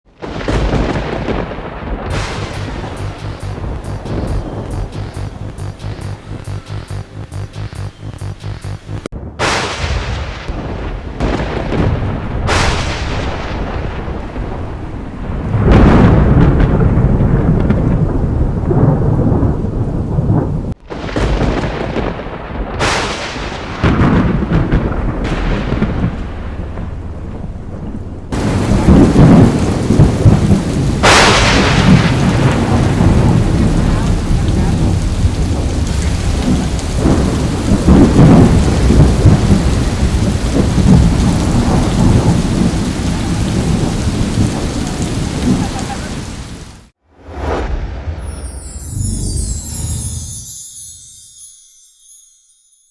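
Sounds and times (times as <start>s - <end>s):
thunderclaps rolling into rumbling: 0.1s - 6.5s, 9.1s - 49.9s
steady rain: 0.1s - 7.4s, 9.0s - 47.0s.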